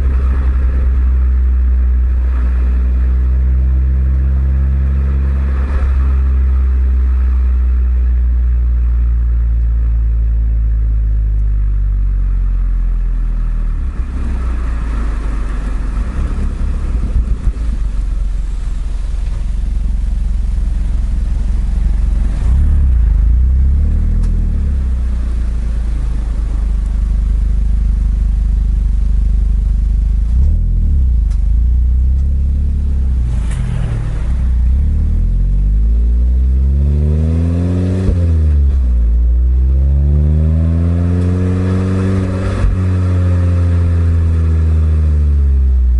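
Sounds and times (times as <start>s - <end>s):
car exhaust revving: 0.0s - 45.9s.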